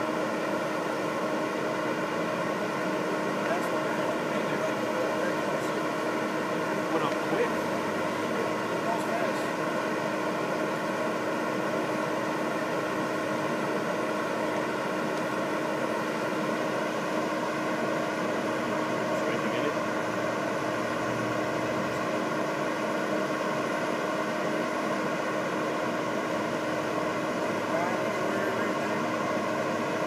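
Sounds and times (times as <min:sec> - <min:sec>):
fire engine engine running: 0:00.0 - 0:30.0.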